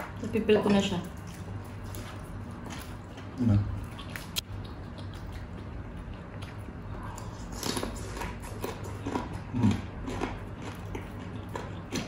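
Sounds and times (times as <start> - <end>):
chewing and lip smacks: 0.0 - 12.0
steady low hum: 0.0 - 12.0.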